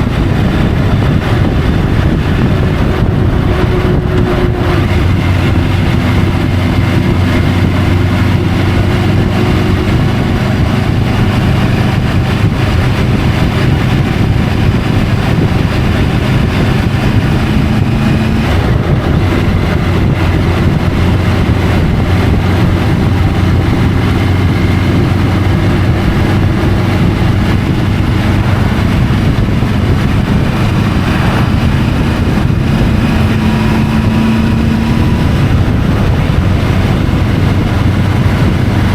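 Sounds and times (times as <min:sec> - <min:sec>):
motorcycle engine cruising: 0:00.0 - 0:38.9
rush of riding wind: 0:00.0 - 0:38.9.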